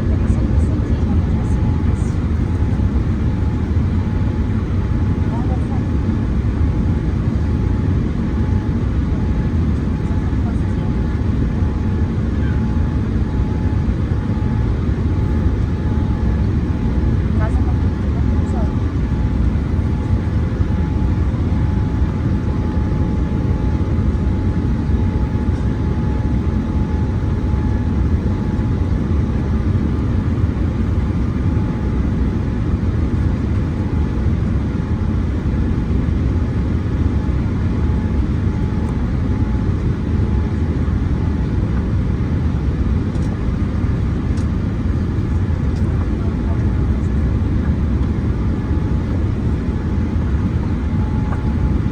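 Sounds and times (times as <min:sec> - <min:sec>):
airliner cabin rumble: 0:00.0 - 0:51.9
faint steady whine: 0:00.0 - 0:51.9.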